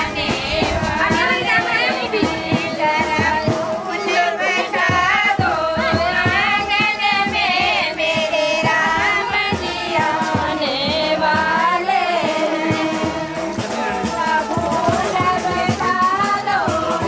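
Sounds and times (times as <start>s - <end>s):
steady drum beat: 0.0s - 17.0s
voices singing: 0.0s - 17.0s.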